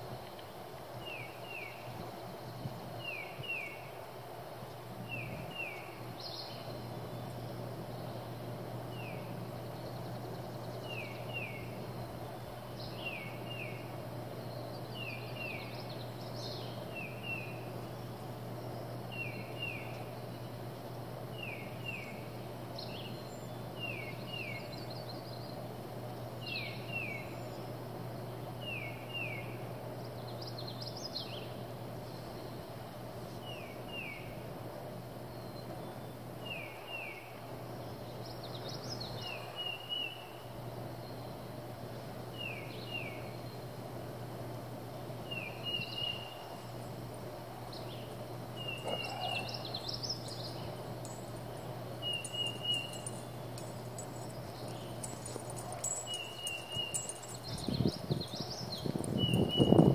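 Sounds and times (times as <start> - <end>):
steady low hum: 0.0 - 59.9
birds chirping: 4.7 - 59.9.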